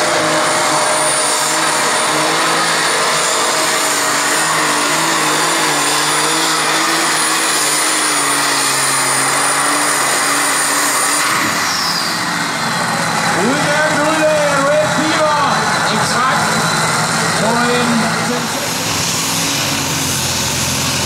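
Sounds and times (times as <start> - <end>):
tractor engine running flat out: 0.0 - 21.0.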